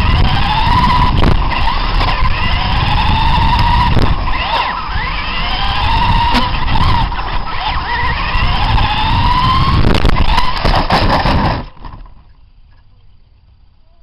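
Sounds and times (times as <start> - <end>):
toy truck motors whining: 0.0 - 12.1
tyre and drivetrain noise: 0.0 - 14.0.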